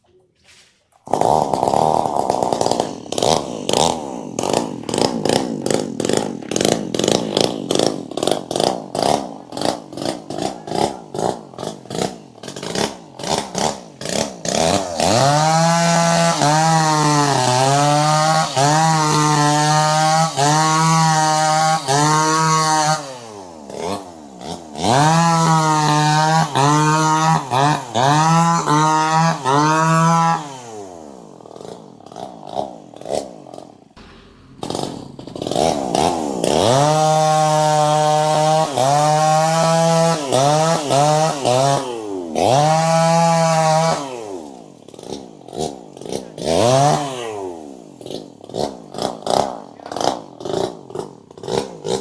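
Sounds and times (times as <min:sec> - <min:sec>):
chainsaw engine revving: 0:00.9 - 0:52.0.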